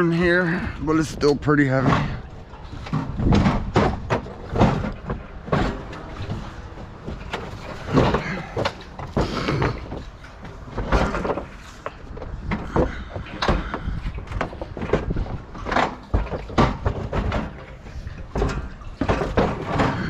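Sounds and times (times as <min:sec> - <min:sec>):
heavy object thumping and scraping: 0:01.2 - 0:20.0.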